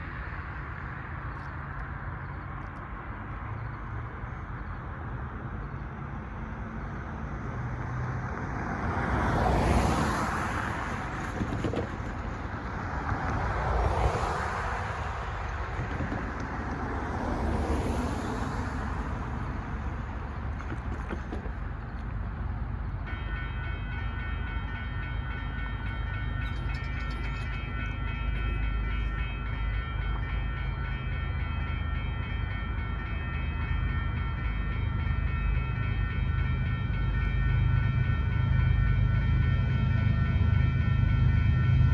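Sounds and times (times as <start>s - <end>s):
low traffic rumble: 0.0s - 41.9s
vehicles passing by: 0.0s - 41.9s.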